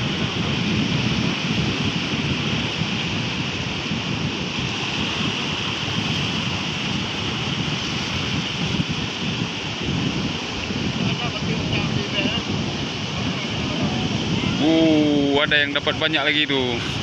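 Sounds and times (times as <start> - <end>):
surf waves washing: 0.0 - 17.0
wind buffeting microphone: 0.0 - 17.0.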